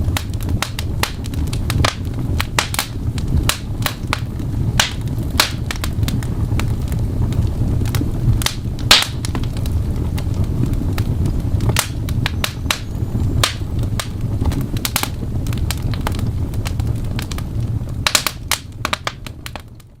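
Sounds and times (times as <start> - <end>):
fire crackling and popping: 0.0 - 20.0
low rumble: 0.0 - 20.0.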